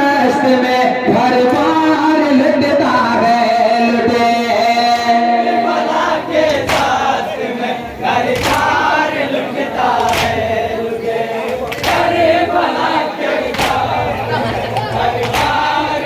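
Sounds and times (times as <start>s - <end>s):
crowd of men chanting: 0.0s - 16.0s.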